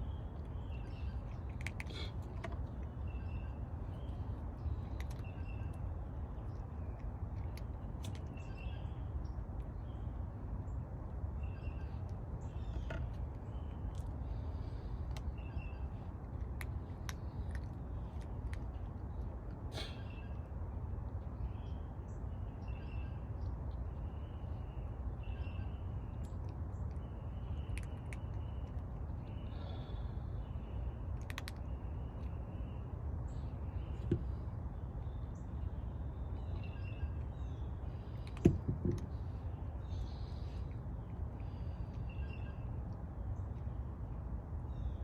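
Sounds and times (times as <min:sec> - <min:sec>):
birds chirping: 0:00.0 - 0:44.0
low background rumble: 0:00.0 - 0:45.0.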